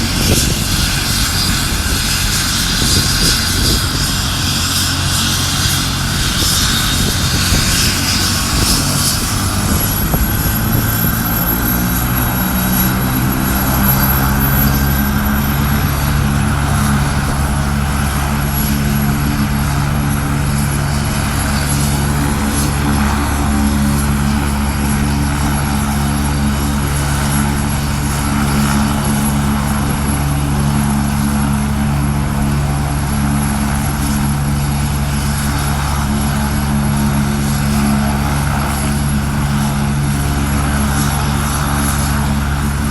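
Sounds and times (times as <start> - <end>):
helicopter low drone: 0.0 - 42.9
high turbine whine: 0.0 - 42.9.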